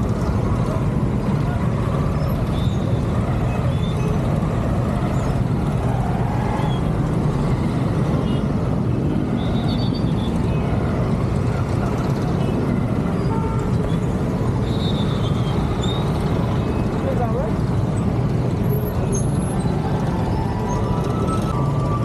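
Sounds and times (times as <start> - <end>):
surrounding motorbikes and cars: 0.0 - 22.0.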